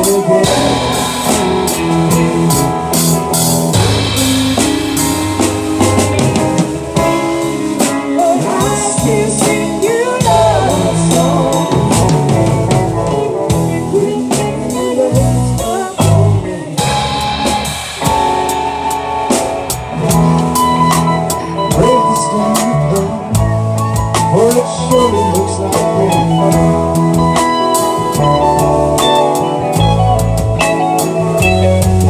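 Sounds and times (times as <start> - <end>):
drum kit: 0.0 - 32.0
electric guitar lead bending: 0.0 - 32.0.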